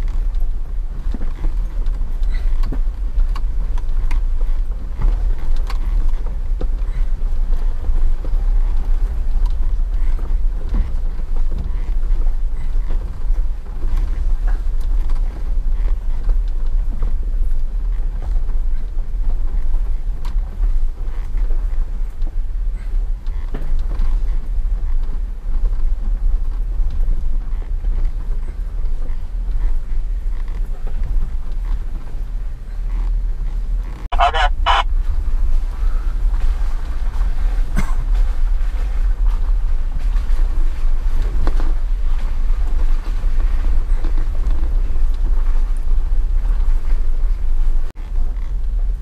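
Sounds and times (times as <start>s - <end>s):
off-road vehicle rumbling: 0.0s - 49.0s.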